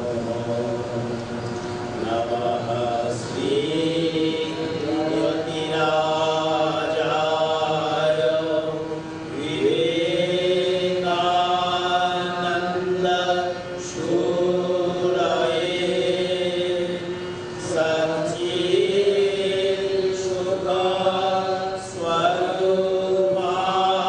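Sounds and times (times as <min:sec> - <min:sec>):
harmonium sustaining chords: 0:00.0 - 0:24.0
men chanting devotional song: 0:00.0 - 0:24.0.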